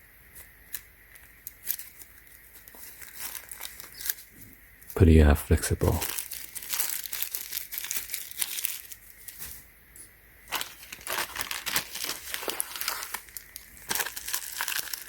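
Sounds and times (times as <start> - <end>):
packaging crinkling and rustling: 0.4 - 4.5, 5.8 - 9.7, 10.4 - 15.0.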